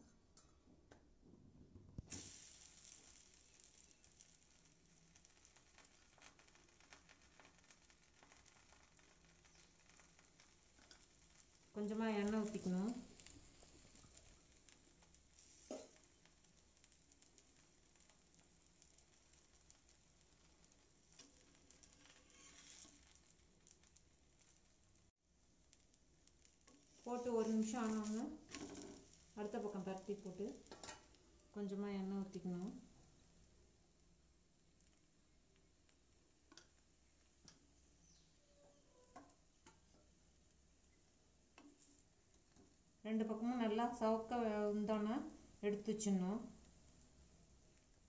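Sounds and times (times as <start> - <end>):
dough sizzling on hot griddle: 2.0 - 48.0.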